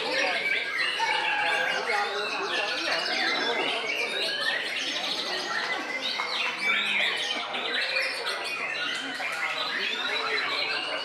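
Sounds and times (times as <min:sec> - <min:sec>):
birds whistling and trilling: 0:00.0 - 0:11.0.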